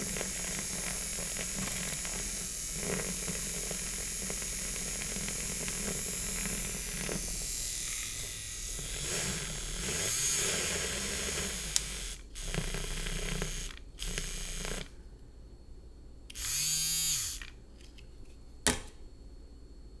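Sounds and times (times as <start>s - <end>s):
milk frother motor whirring: 0.0s - 15.0s, 16.3s - 17.6s.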